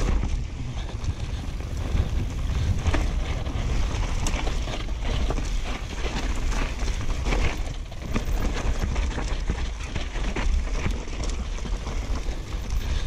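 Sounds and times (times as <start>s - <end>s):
bike rattling over bumps: 0.0s - 13.0s
tyres rolling over dirt: 0.0s - 13.0s
wind rumbling on microphone: 0.0s - 13.0s.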